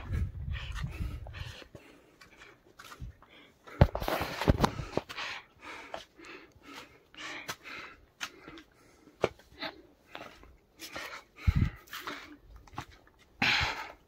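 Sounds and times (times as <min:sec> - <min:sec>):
person breathing hard: 0:00.0 - 0:12.5, 0:13.3 - 0:14.0
footsteps: 0:00.0 - 0:13.3.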